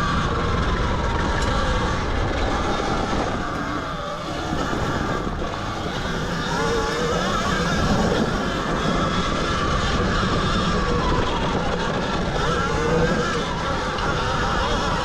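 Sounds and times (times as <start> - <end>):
electric motor whine: 1.0 - 15.0.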